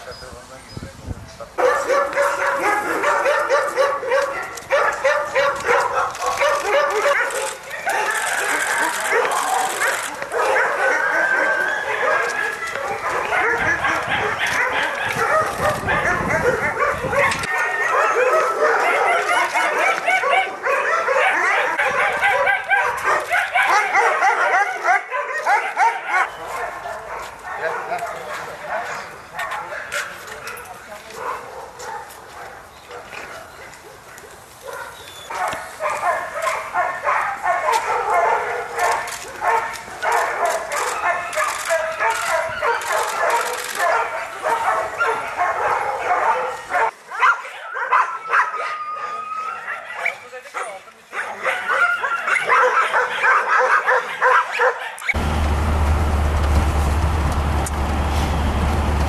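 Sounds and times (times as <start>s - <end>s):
many dogs barking and yelping: 1.6s - 55.2s.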